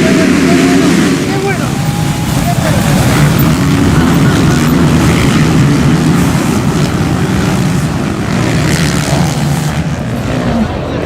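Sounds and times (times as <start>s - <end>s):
motocross bike engines running: 0.0s - 11.0s.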